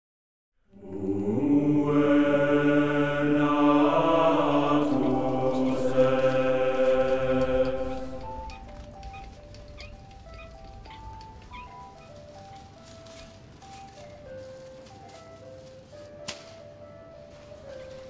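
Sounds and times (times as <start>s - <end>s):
choir singing held chords: 0.7s - 15.7s.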